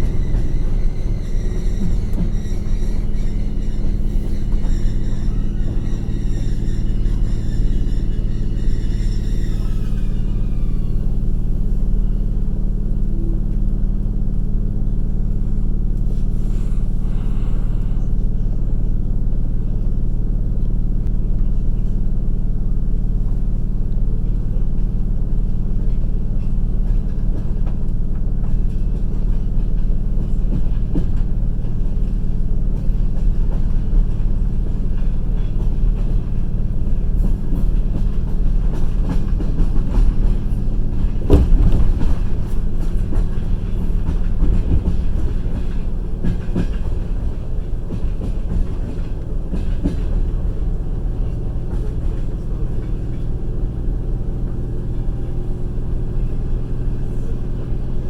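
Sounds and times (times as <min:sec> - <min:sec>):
constant low hum: 0:00.0 - 0:58.0
train wheels rumbling: 0:00.0 - 0:58.0.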